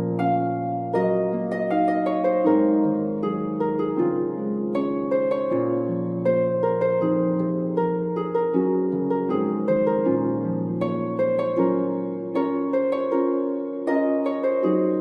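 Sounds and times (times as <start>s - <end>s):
plucked harp-like melody: 0.0s - 15.0s.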